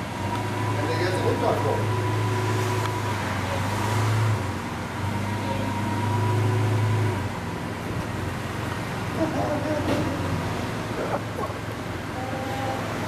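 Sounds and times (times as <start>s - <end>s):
car engine at low revs: 0.0s - 13.0s.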